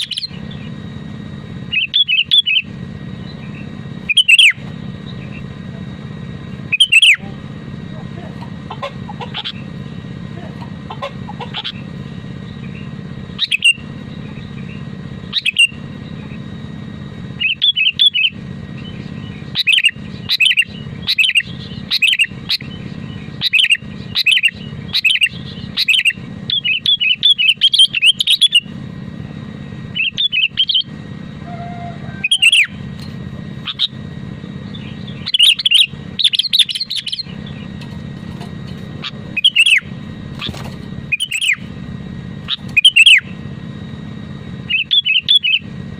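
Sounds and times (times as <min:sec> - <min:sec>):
bird chirping: 0:00.0 - 0:00.8, 0:01.7 - 0:05.6, 0:06.5 - 0:07.4, 0:08.6 - 0:10.0, 0:10.8 - 0:16.4, 0:17.4 - 0:28.7, 0:29.9 - 0:34.0, 0:34.6 - 0:41.7, 0:42.4 - 0:43.4, 0:44.6 - 0:45.7
low background hum: 0:00.0 - 0:45.9.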